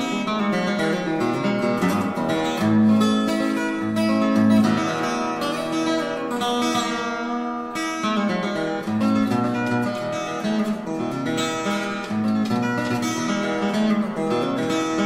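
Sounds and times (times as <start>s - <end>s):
acoustic guitar tune: 0.0s - 15.0s.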